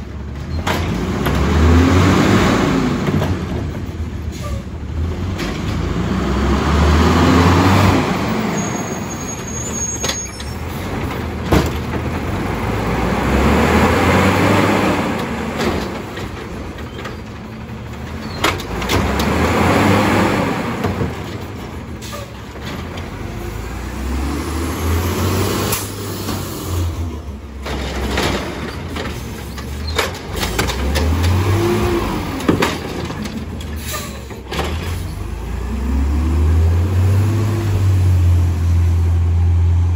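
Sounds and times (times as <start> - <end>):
garbage truck engine revving: 0.4 - 39.9.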